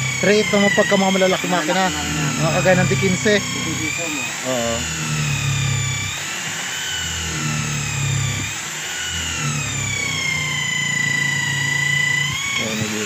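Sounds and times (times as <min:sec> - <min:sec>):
electric drill boring wood: 0:00.0 - 0:13.0.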